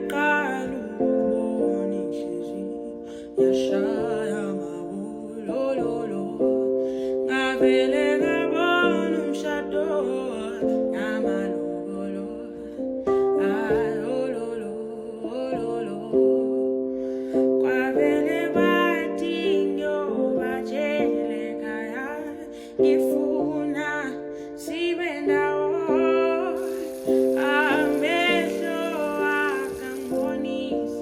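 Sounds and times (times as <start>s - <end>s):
woman singing: 0.0s - 31.0s.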